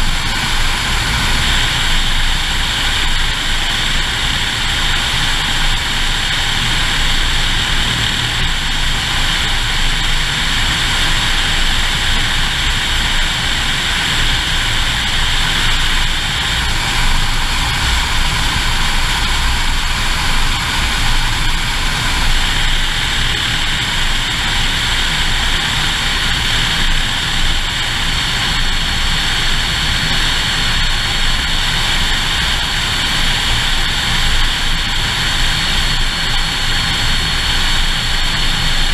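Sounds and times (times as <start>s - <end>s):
propeller plane engine: 0.0s - 38.9s.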